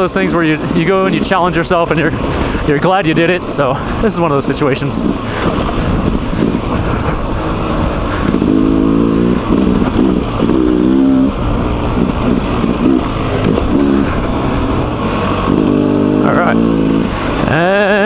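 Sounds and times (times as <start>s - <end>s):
dirt bike engine revving: 0.0s - 18.0s
low rumble: 1.8s - 17.9s.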